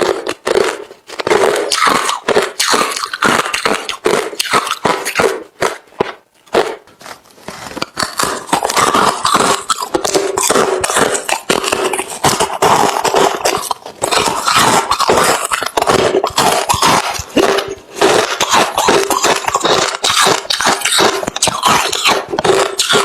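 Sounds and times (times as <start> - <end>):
person crunching ice: 0.0 - 23.0.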